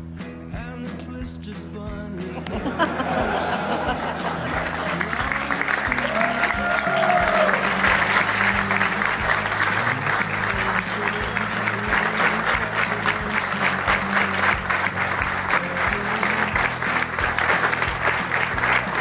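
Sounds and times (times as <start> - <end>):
crowd applauding: 2.4 - 19.0.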